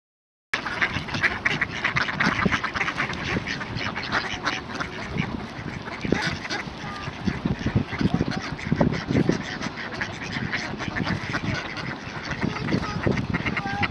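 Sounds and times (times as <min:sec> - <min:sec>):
ducks quacking: 0:00.6 - 0:13.9.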